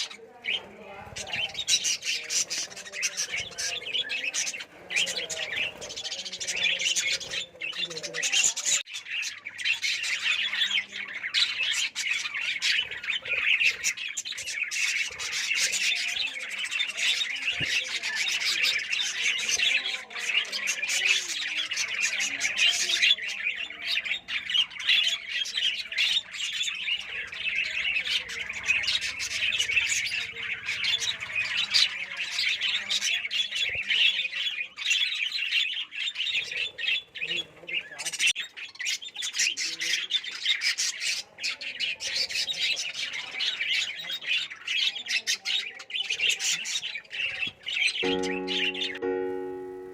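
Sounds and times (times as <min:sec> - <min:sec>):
lovebirds chattering and squawking: 0:00.0 - 0:49.9.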